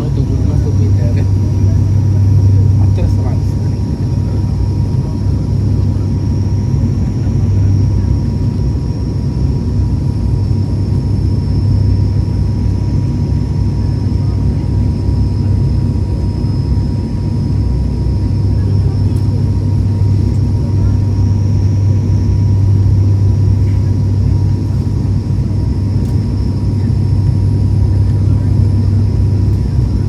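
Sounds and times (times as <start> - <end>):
faint constant whine: 0.0 - 30.0
propeller cabin drone: 0.0 - 30.0.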